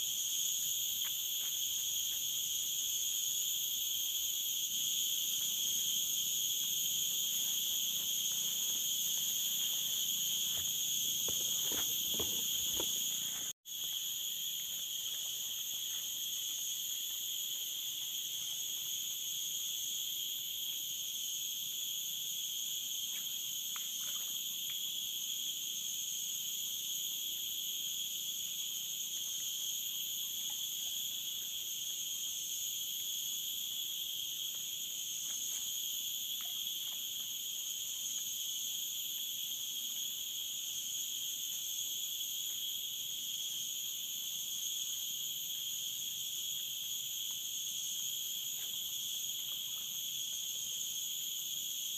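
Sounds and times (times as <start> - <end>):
insects droning: 0.0 - 51.9.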